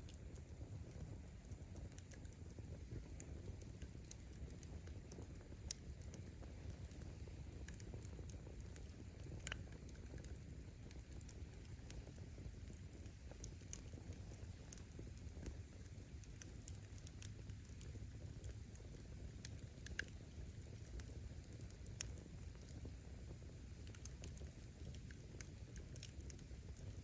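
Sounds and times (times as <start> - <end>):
fire flames rumbling: 0.0 - 27.0
firewood crackling and popping: 0.0 - 27.0.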